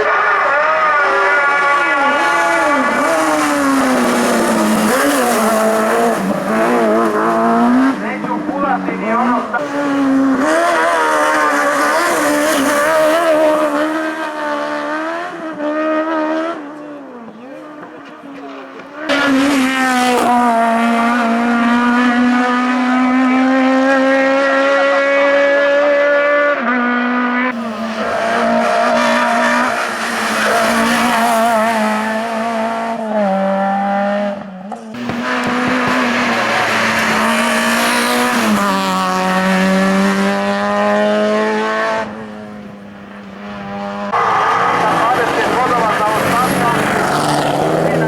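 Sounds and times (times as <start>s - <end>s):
racing car engine at high revs: 0.0s - 48.0s.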